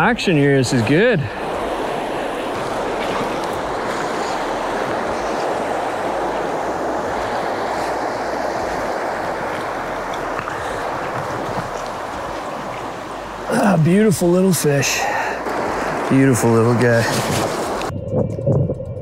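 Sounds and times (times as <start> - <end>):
river rushing over rocks: 1.3 - 17.9.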